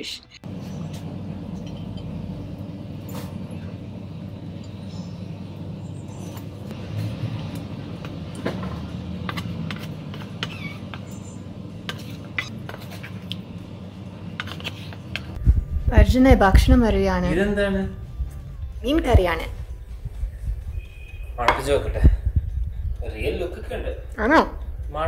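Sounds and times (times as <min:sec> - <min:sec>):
steady low hum: 0:00.4 - 0:25.0.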